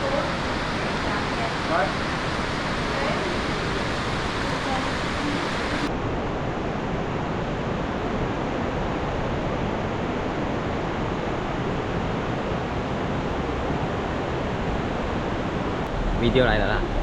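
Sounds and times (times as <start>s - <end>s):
river roaring over rocks: 0.0s - 17.0s.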